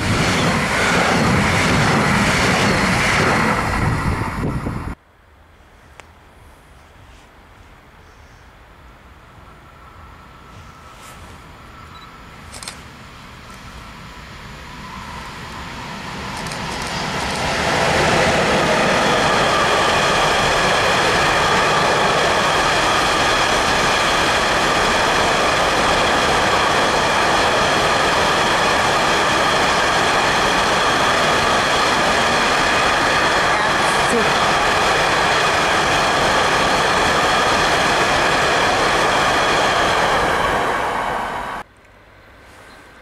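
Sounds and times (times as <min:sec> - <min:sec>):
train wheels rumbling on rails: 0:00.0 - 0:05.0, 0:10.4 - 0:41.7.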